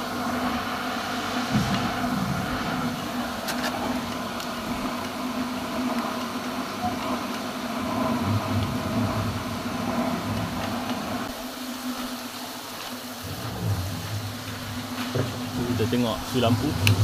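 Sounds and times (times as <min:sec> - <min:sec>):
water pump motor hum: 0:00.0 - 0:17.0.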